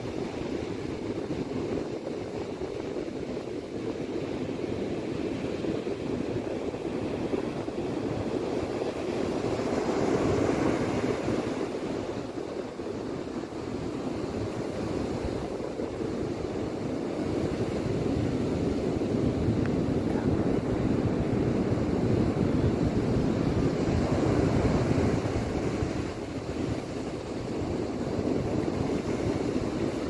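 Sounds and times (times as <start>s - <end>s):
surf breaking on beach: 0.0s - 30.0s
wind buffeting microphone: 0.0s - 30.0s.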